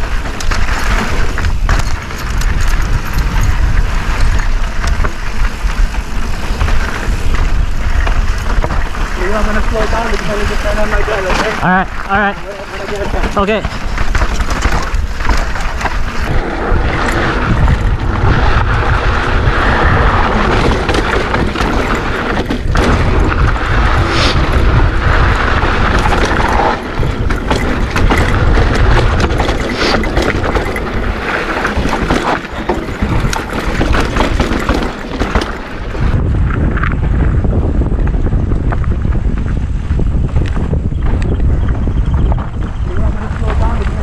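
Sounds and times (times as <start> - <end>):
bike knocks and rattles: 0.0 - 44.0
tyres rumbling over dirt: 0.0 - 44.0
wind buffeting microphone: 0.0 - 44.0.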